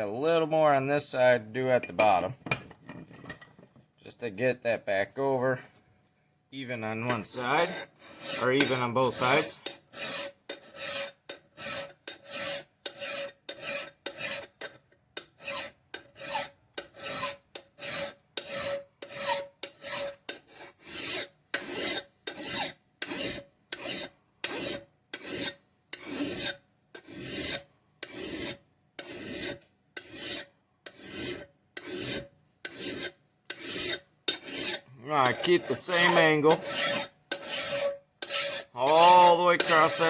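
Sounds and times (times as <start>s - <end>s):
file rasping on axe blade: 7.3s - 40.0s.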